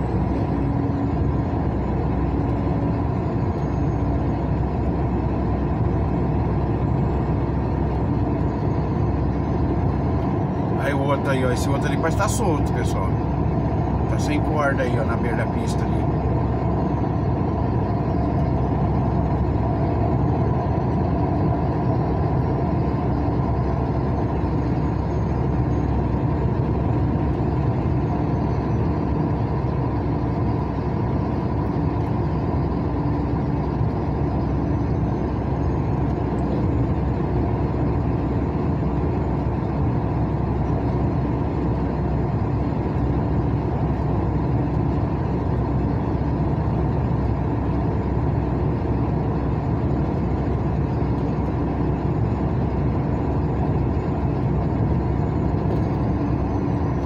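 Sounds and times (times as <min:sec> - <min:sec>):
car engine hum: 0:00.0 - 0:57.0.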